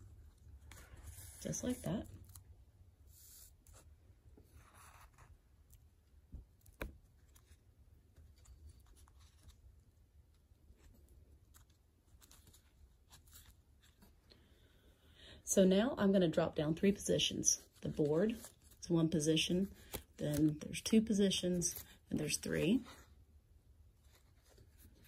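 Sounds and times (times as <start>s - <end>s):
paper and thread rustling: 0.0s - 14.3s, 17.4s - 25.0s.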